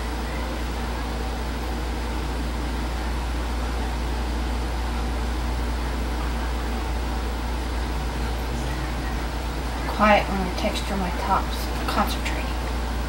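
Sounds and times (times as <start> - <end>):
low hum with even hiss: 0.0 - 13.0.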